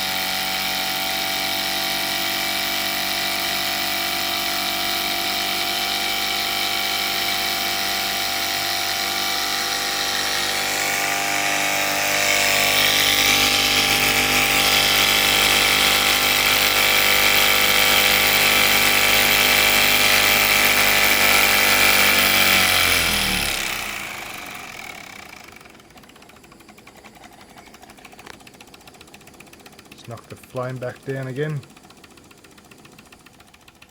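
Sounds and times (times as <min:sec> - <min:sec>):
miniature steam engine whirring: 0:00.0 - 0:33.9.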